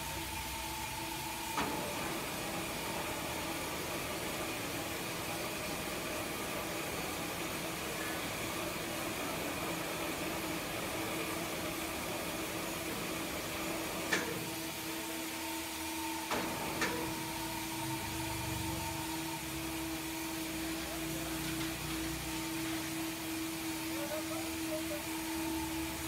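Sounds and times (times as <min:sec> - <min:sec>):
machinery hum: 0:00.0 - 0:26.0.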